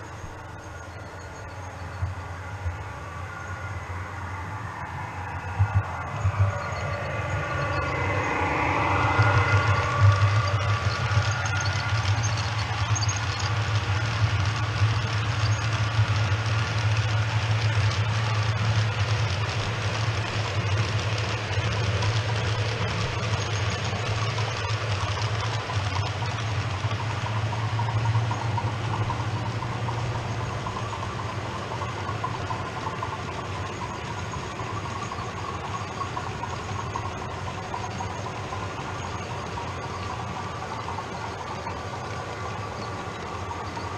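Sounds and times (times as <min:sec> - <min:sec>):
low hum: 0:00.0 - 0:43.9
model train wheels rattling: 0:05.6 - 0:43.9.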